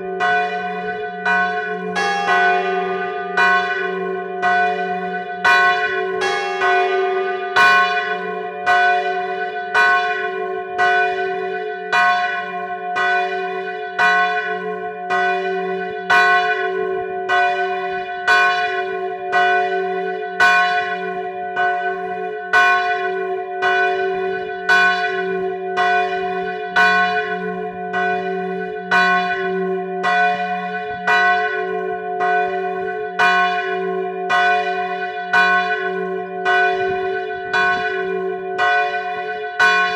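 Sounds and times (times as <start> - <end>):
church bell tolling: 0.0 - 39.9.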